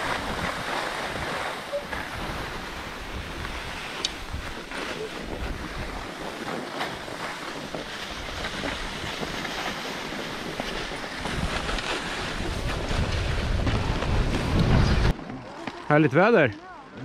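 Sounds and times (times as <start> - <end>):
wind rumbling on microphone: 0.0 - 15.2
skis scraping over snow: 0.0 - 17.0.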